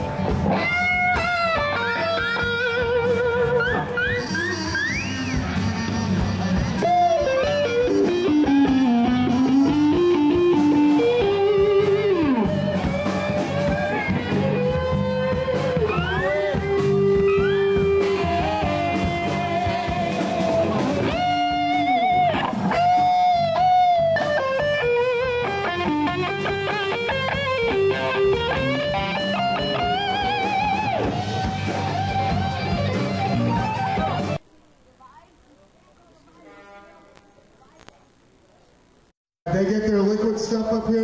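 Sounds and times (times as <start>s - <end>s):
electric guitar bending notes: 0.0s - 34.4s
live rock band playing: 0.0s - 37.6s.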